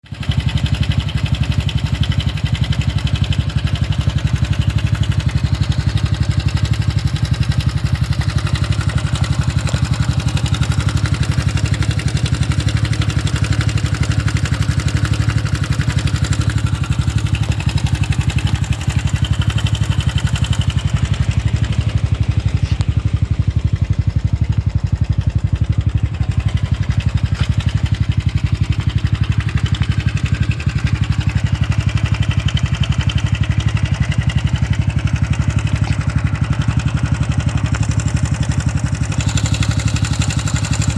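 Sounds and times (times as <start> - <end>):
motorcycle engine with abnormal noise: 0.0 - 40.9.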